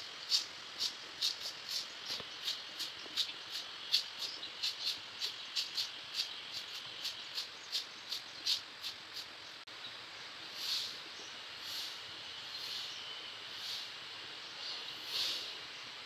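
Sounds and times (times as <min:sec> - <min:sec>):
broom sweeping pavement: 0:00.0 - 0:09.4, 0:10.5 - 0:14.0, 0:14.6 - 0:15.6.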